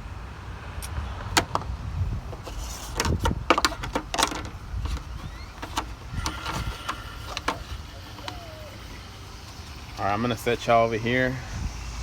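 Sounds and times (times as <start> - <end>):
lawn mower running: 2.3 - 12.0.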